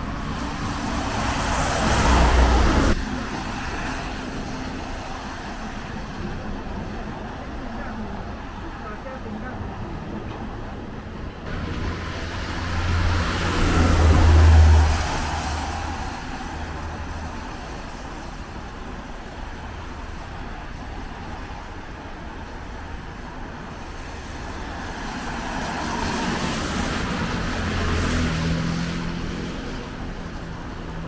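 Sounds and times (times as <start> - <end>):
vehicles passing on wet road: 0.0 - 10.2, 11.4 - 31.0.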